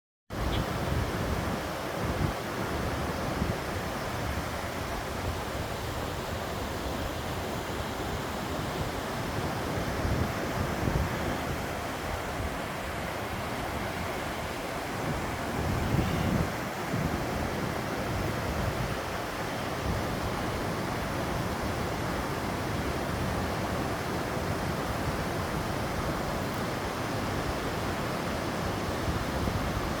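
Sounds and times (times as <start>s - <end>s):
mountain stream water rushing: 0.3s - 30.0s.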